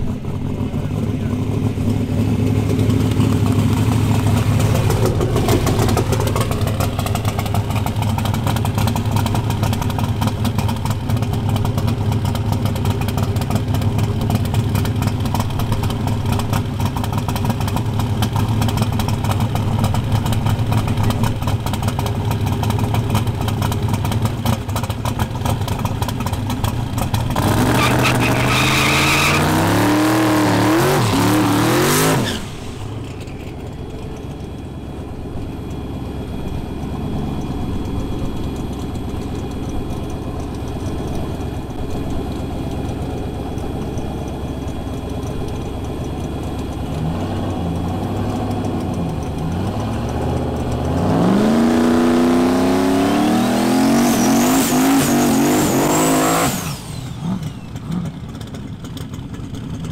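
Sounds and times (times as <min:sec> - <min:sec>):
car engine revving: 0:00.0 - 0:58.5
drag car engine running: 0:00.0 - 0:59.9.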